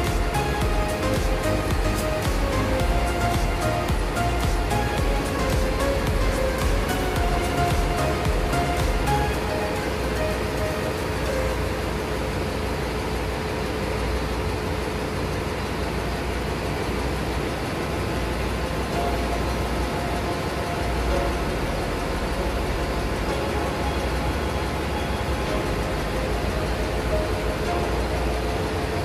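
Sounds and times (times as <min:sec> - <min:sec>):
diesel engine room drone: 0:00.0 - 0:29.0
faint steady hum: 0:00.0 - 0:29.0.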